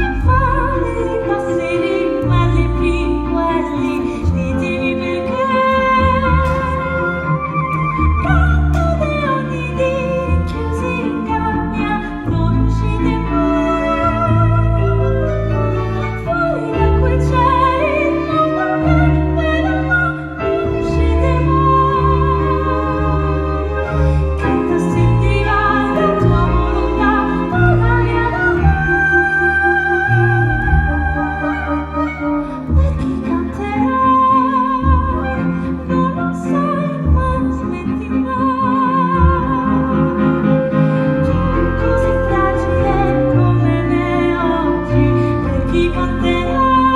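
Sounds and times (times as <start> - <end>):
woman singing with vibrato: 0.0 - 15.4, 16.2 - 46.9
orchestra strings and chords: 0.0 - 46.9.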